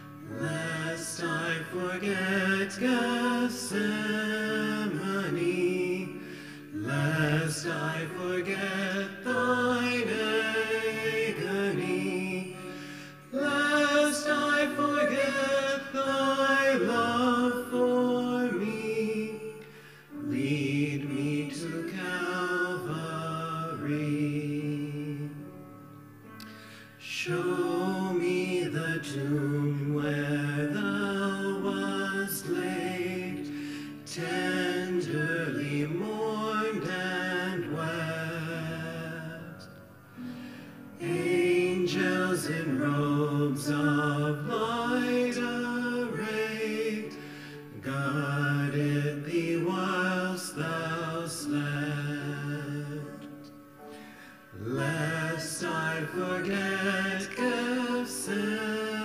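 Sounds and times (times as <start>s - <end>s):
woman and man singing a hymn: 0.0s - 25.8s, 27.0s - 59.0s
piano accompaniment: 0.0s - 59.0s.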